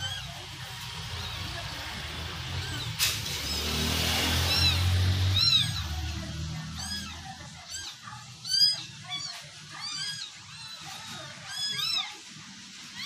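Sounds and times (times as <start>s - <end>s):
kitten mewing: 2.1s - 13.0s.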